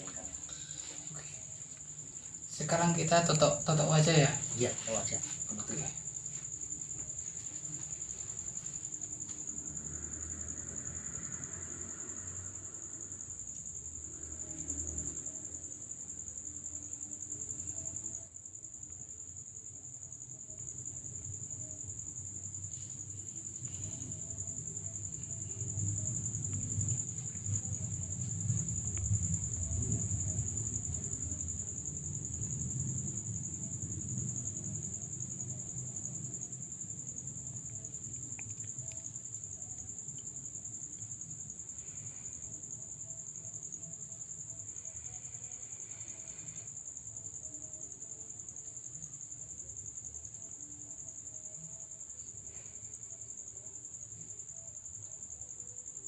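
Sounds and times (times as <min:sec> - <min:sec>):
high-pitched insect trill: 0:00.0 - 0:56.0.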